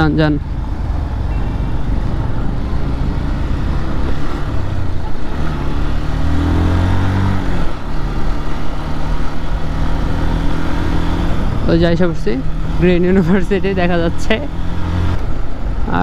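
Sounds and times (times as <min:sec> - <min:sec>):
motorcycle engine accelerating: 0:00.0 - 0:15.6
wind and road noise: 0:00.0 - 0:16.0.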